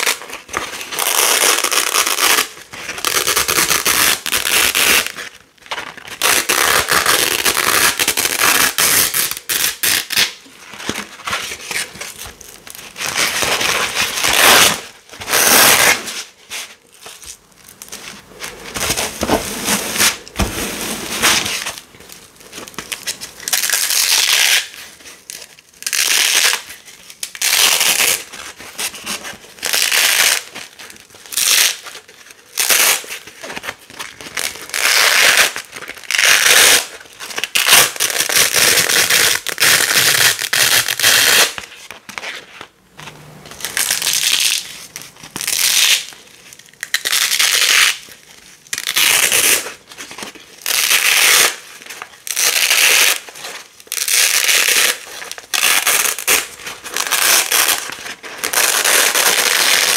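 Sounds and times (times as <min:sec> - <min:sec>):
velcro tape ripping apart: 0:00.0 - 0:05.3, 0:05.9 - 0:16.3, 0:22.6 - 0:24.8, 0:25.4 - 0:28.4, 0:29.0 - 0:33.3, 0:34.0 - 0:41.8, 0:43.5 - 0:59.9.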